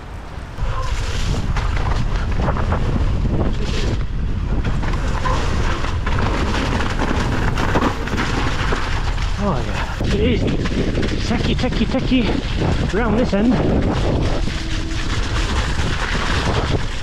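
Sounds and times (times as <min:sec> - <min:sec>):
wind buffeting microphone: 0:00.0 - 0:17.0
bike knocking and rattling: 0:00.7 - 0:17.0.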